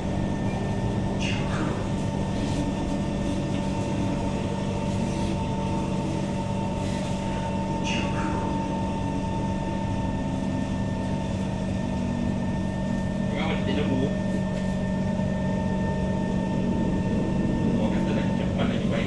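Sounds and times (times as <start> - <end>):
train cabin rumble and whine: 0.0 - 19.0.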